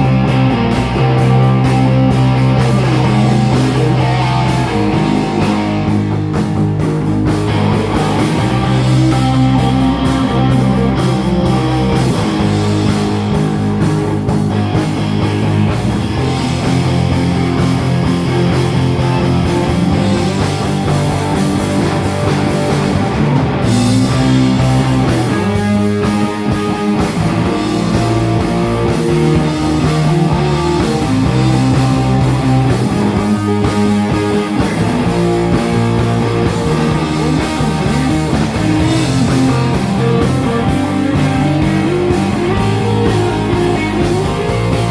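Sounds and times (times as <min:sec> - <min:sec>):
electric guitar: 0:00.0 - 0:44.9
loud live rock band: 0:00.0 - 0:44.9.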